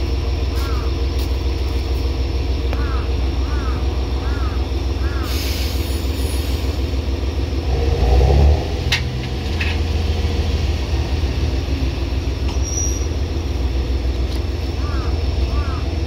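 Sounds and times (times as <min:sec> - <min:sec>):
railcar engine hum: 0:00.0 - 0:16.0.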